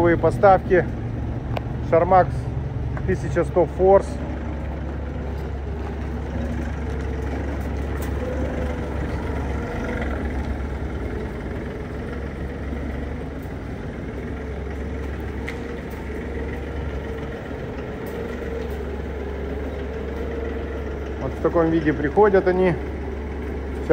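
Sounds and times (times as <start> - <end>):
vehicle engine idling: 0.0 - 23.9.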